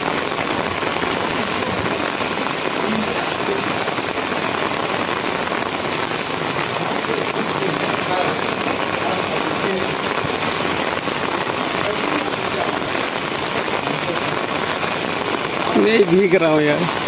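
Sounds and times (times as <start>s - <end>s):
heavy rain on brick paving: 0.0s - 17.0s.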